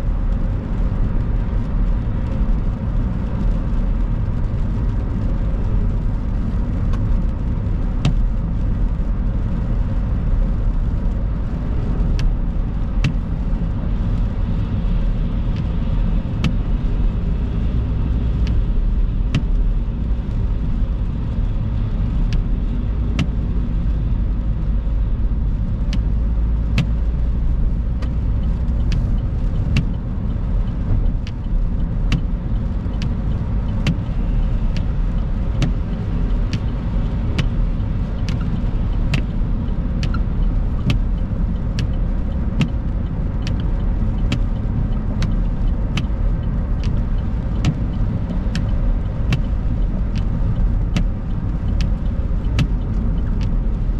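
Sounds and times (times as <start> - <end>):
car driving on wet road: 0.0 - 53.9
raindrops hitting windscreen: 0.0 - 53.9.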